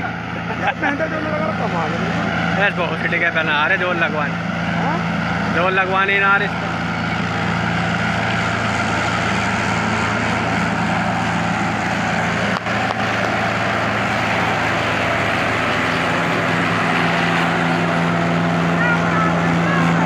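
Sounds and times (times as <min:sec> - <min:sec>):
tractor diesel engine high revs: 0:00.0 - 0:20.0.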